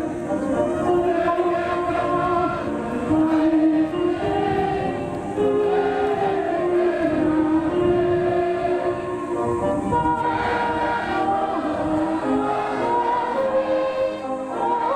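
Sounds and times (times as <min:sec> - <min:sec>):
choir singing: 0:00.0 - 0:14.9.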